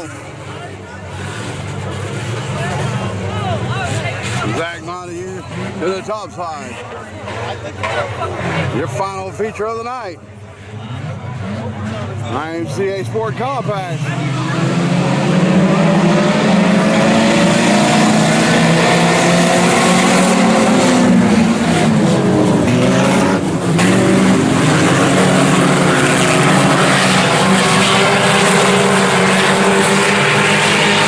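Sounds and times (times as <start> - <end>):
race car engines passing: 0.0 - 31.0.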